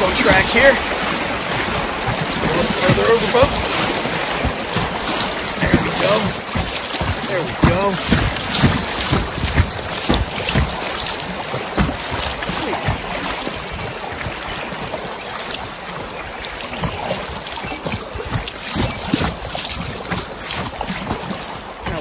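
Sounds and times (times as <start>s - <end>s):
creek rapids rushing: 0.0s - 22.0s
water slapping against boat: 0.0s - 22.0s.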